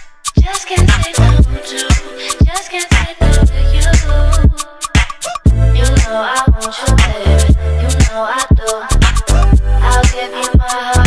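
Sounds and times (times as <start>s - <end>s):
dance music with heavy bass beat: 0.0s - 11.0s.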